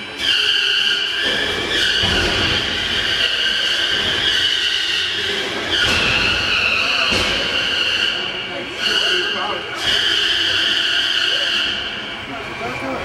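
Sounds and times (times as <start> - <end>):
high-pitched drivetrain whine: 0.0 - 13.0.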